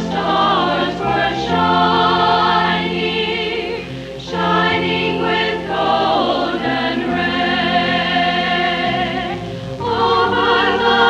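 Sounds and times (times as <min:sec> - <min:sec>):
church choir singing: 0:00.0 - 0:11.0.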